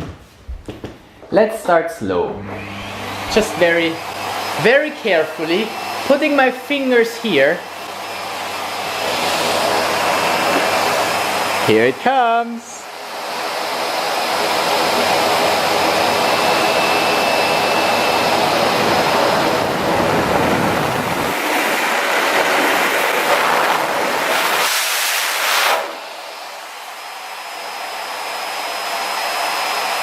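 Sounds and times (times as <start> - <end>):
vacuum cleaner running: 2.0 - 30.0.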